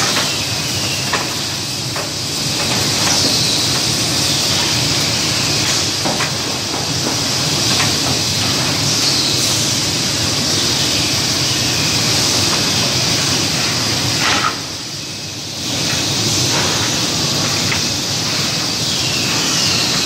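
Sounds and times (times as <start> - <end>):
woodworking machinery hiss and hum: 0.0 - 20.0.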